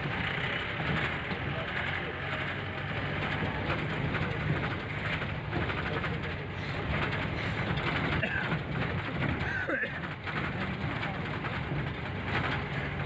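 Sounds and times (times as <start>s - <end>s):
vehicle driving on road: 0.0s - 13.0s.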